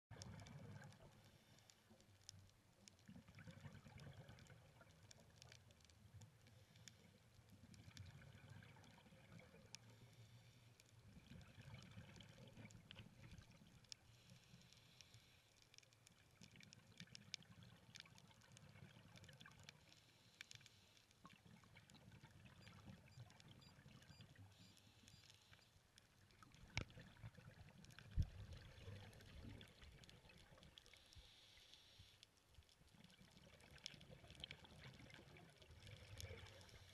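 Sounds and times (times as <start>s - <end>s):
low rumble of water: 0.1s - 31.4s, 32.1s - 36.9s.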